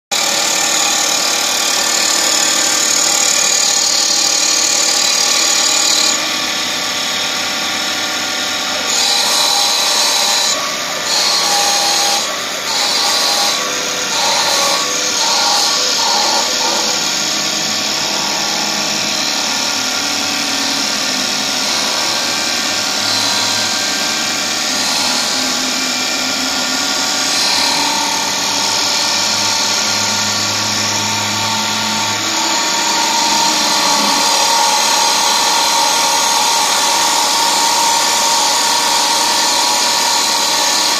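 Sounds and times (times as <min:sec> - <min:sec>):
cutters cutting into spinning wood: 0:00.1 - 0:40.9
lathe spindle whine: 0:00.1 - 0:40.9.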